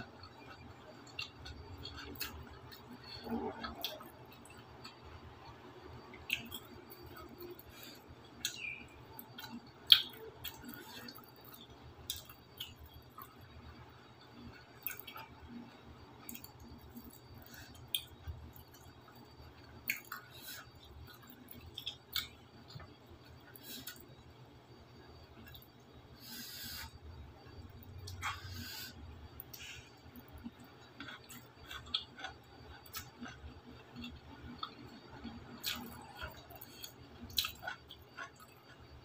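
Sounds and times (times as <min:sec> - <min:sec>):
quiet chewing: 0:00.1 - 0:13.5, 0:14.4 - 0:24.1, 0:25.4 - 0:26.9, 0:27.6 - 0:39.0.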